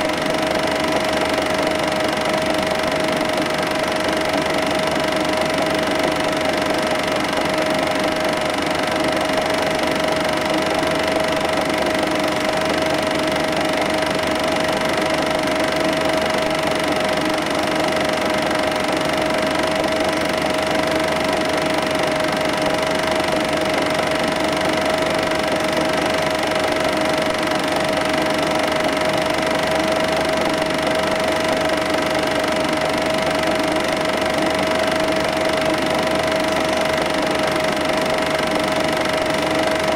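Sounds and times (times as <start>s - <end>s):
projector motor whine: 0.0s - 39.9s.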